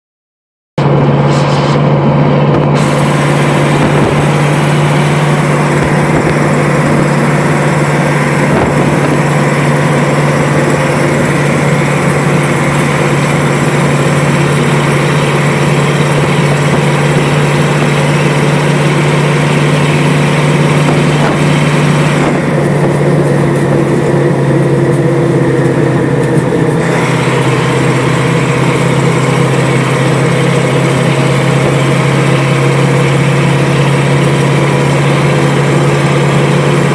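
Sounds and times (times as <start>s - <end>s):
fire engine drone: 0.8s - 36.9s.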